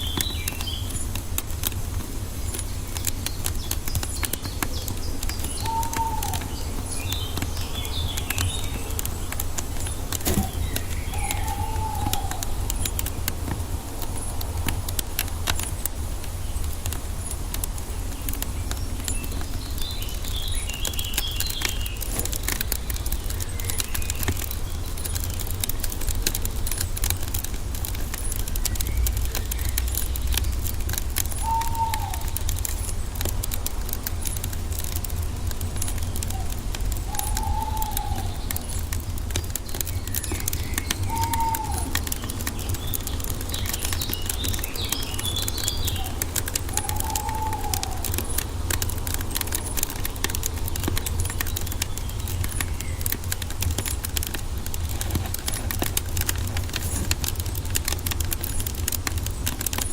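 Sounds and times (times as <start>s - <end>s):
small bird chirping: 0.0s - 59.9s
wood fire crackling: 0.0s - 59.9s.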